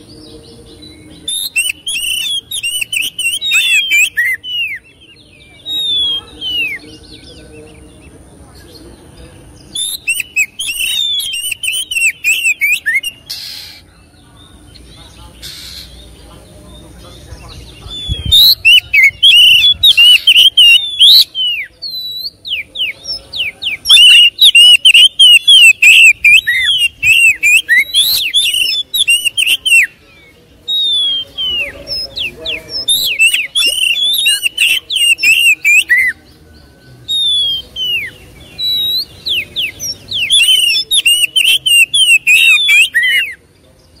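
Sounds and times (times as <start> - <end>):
bird singing whistles and chirps: 0.0 - 8.8, 9.6 - 44.0.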